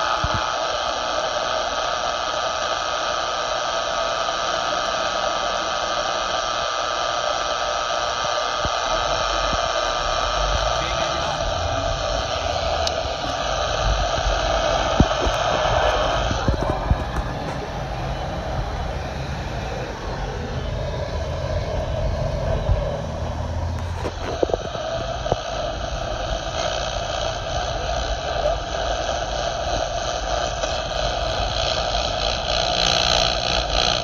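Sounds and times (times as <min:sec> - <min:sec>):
radio static: 0:00.0 - 0:34.0.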